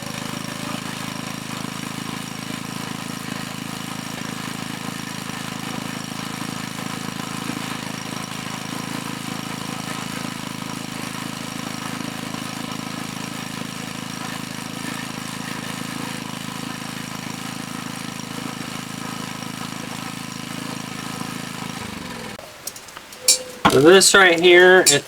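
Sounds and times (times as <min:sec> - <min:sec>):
log splitter engine running: 0:00.0 - 0:25.0.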